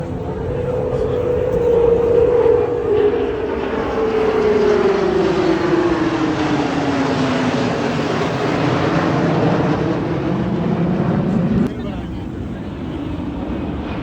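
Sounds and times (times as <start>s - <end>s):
aircraft flying past: 0.0s - 14.0s.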